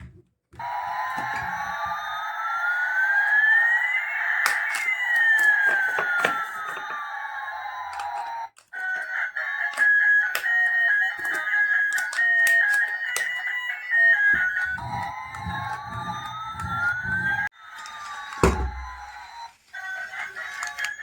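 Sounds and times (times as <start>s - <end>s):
buzzy siren-like toy tone: 0.6s - 21.0s.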